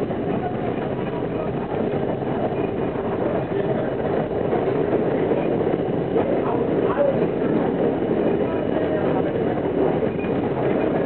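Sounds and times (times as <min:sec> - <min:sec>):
subway train wheels rumbling: 0:00.0 - 0:11.0.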